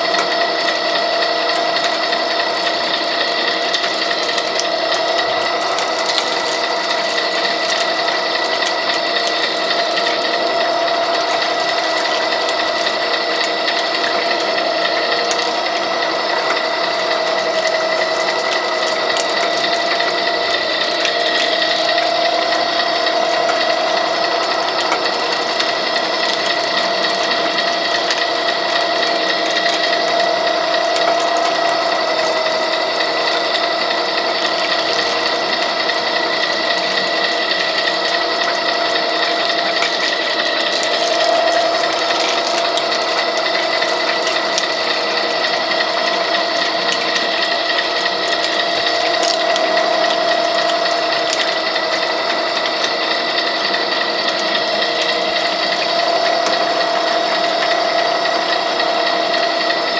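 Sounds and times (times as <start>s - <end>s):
gear drive whine: 0.0s - 59.9s
pipe threading machine humming: 0.0s - 59.9s.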